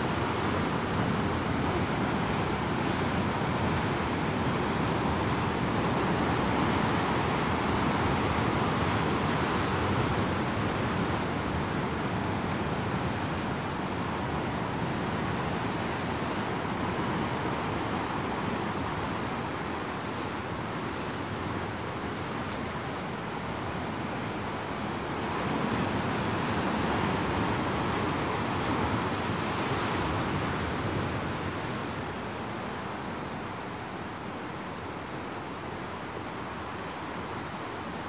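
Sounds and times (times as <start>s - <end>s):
sea surf on rocky shore: 0.0s - 38.0s.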